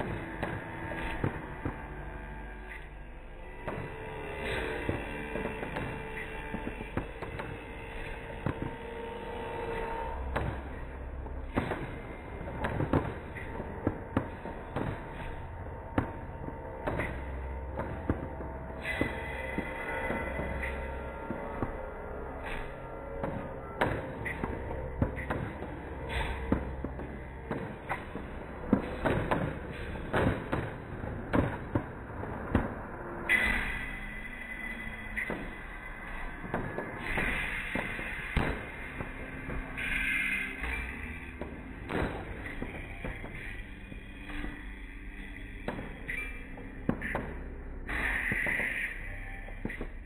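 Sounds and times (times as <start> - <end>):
fireworks bangs: 0.0 - 1.8, 3.7 - 8.8, 9.8 - 21.8, 22.4 - 43.7, 45.7 - 46.3.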